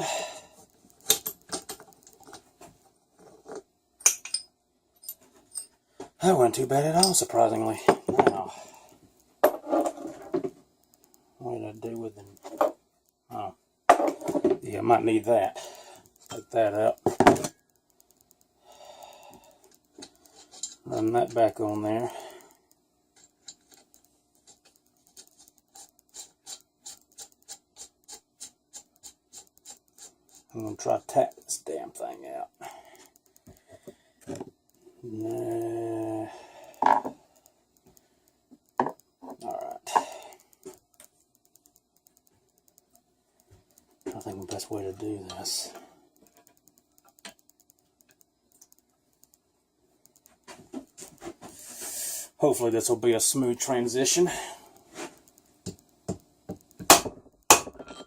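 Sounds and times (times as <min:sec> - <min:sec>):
faint clicks of tools and metal: 0:00.0 - 0:58.0.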